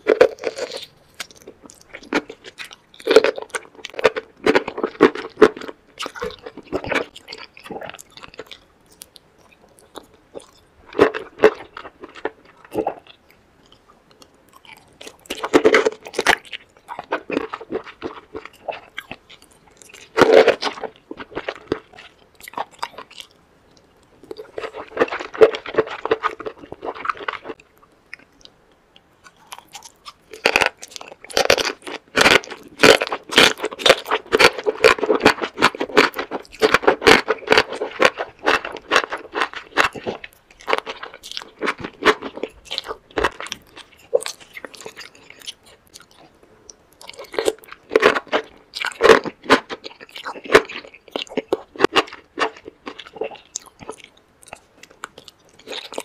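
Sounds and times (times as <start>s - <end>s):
close-miked chewing crunches: 0.0s - 56.0s.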